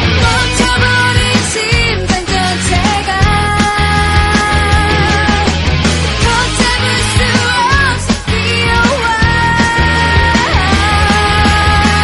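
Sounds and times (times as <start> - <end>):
rock music with drums and bass: 0.0 - 12.0.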